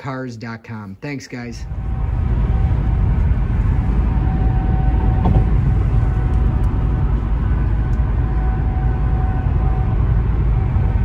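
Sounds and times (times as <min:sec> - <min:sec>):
faint steady whine: 0:01.4 - 0:11.0
road and engine rumble in car: 0:01.7 - 0:11.0.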